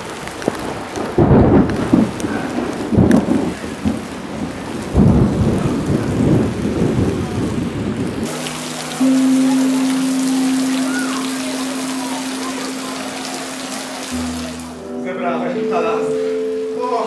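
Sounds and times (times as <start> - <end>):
thunder rumbling: 0.0 - 14.5
steady rain: 0.0 - 17.0.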